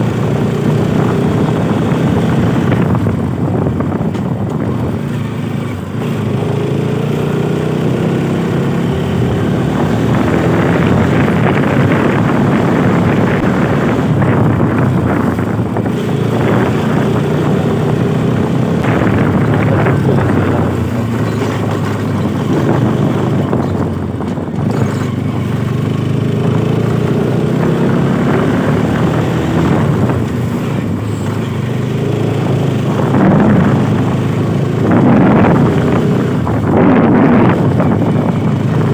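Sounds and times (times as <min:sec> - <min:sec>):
motorcycle engine running: 0:00.0 - 0:38.9
wind rushing: 0:06.0 - 0:38.9.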